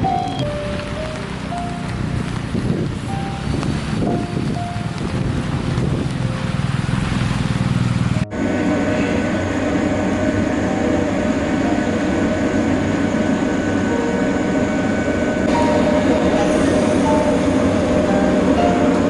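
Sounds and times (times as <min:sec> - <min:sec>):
train rolling rumble: 0:00.0 - 0:19.0.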